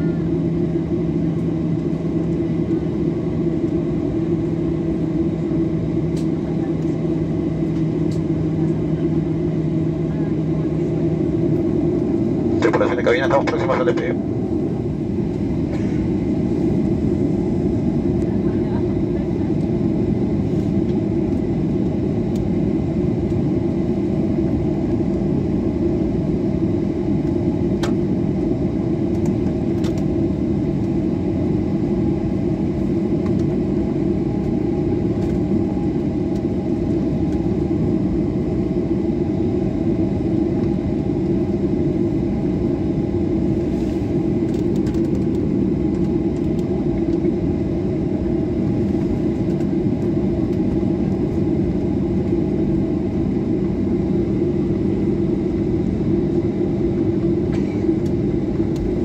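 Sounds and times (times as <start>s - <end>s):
airplane taxiing rumble: 0.0s - 59.0s.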